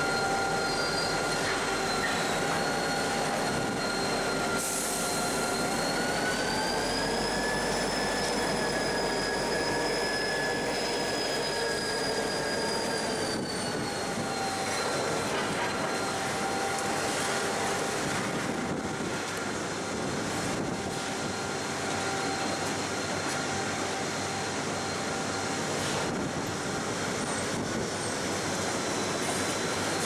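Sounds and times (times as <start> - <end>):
steel wheels squealing: 0.0 - 30.0.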